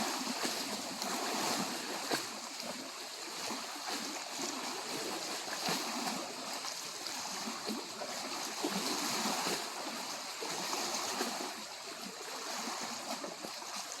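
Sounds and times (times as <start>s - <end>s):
lake waves lapping on shore: 0.0s - 14.0s.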